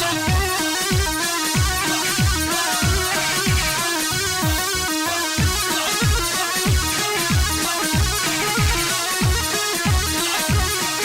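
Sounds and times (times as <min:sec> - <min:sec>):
electronic keyboard melody: 0:00.0 - 0:11.0
steady drum beat: 0:00.0 - 0:11.0
deep bass thumps: 0:00.3 - 0:03.8, 0:04.4 - 0:10.7.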